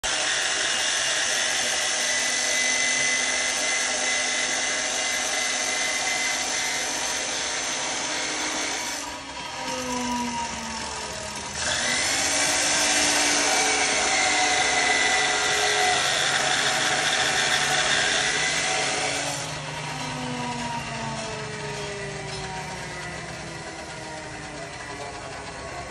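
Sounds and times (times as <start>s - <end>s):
cut-off saw grinding steel: 0.0s - 25.9s.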